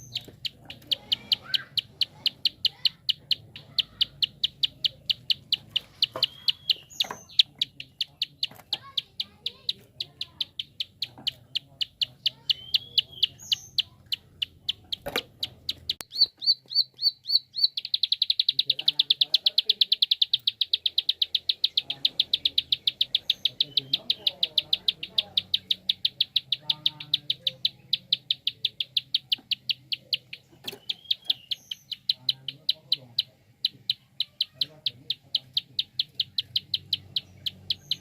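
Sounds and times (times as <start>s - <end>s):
bird clicking call: 0.0s - 38.0s.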